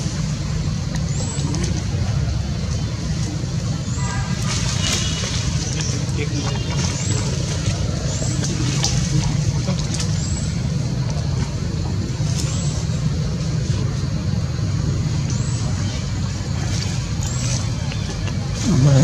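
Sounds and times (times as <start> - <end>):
engine running low drone: 0.0 - 19.0.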